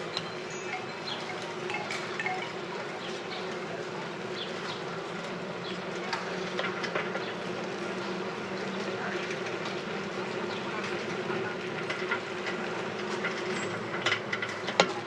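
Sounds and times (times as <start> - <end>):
bicycle buzzing while ridden: 0.0 - 15.0.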